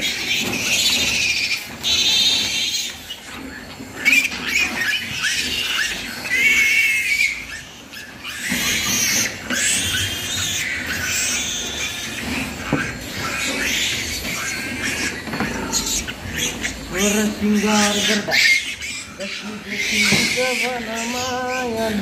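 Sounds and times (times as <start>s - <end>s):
piglets squealing: 0.0s - 22.0s.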